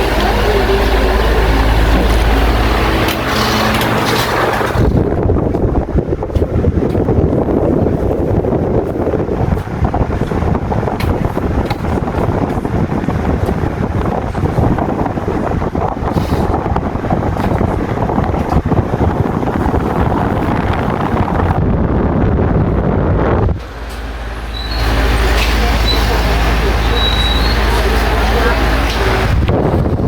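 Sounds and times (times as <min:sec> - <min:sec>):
fan wind rumble on microphone: 0:00.0 - 0:30.0.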